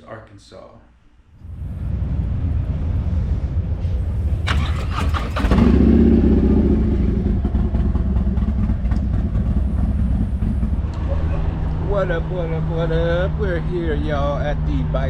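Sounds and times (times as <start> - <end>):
motorcycle engine rumble: 1.4 - 15.0.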